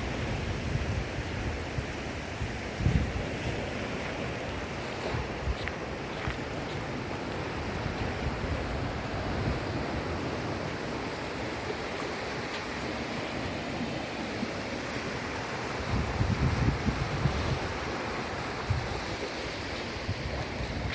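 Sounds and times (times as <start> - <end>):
sea waves washing onto shore: 0.0 - 20.9.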